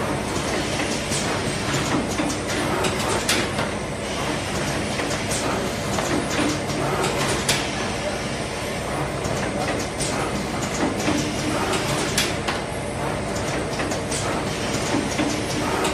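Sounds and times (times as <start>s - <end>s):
sharp mechanical clacks: 0.3s - 3.8s, 4.4s - 7.7s, 9.0s - 15.9s.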